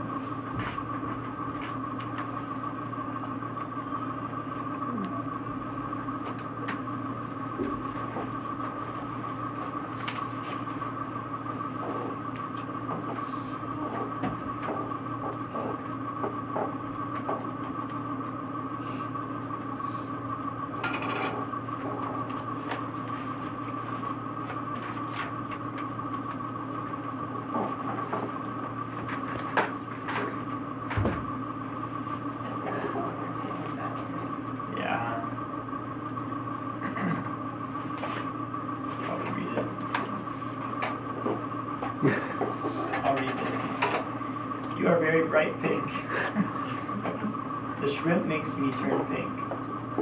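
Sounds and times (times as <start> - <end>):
room hum with whine: 0.0 - 50.0.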